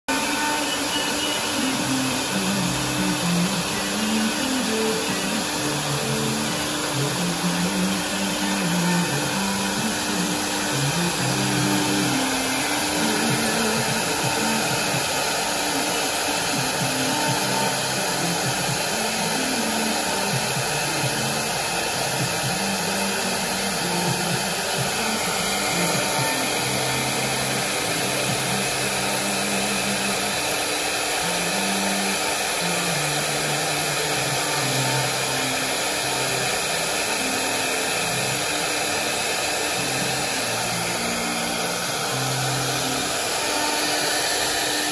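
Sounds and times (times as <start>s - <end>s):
cnc router spindles whining: 0.1s - 44.9s.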